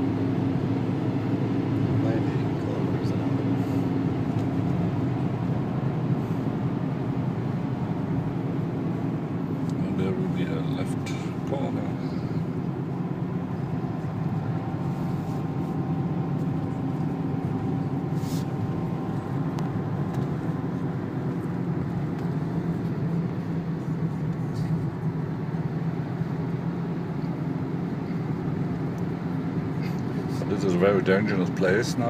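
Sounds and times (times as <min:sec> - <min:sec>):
car engine drone: 0:00.0 - 0:32.0
road and tyre noise: 0:00.0 - 0:32.0.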